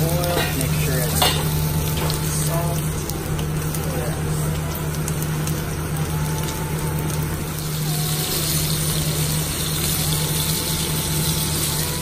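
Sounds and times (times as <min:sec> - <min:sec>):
meat sizzling in hot oil: 0:00.0 - 0:12.0
steady low hum: 0:00.0 - 0:12.0.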